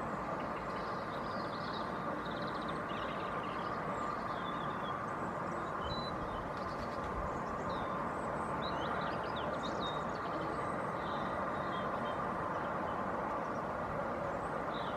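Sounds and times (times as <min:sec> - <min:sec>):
traffic hum: 0:00.0 - 0:14.9
small birds chirping: 0:00.3 - 0:14.9.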